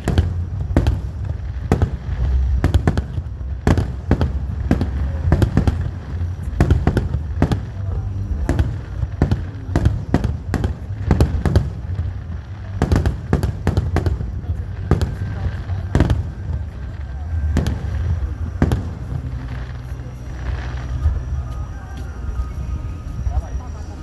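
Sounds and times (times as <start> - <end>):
fireworks bangs: 0.0 - 23.8
rumble of echoing explosions: 0.0 - 24.0.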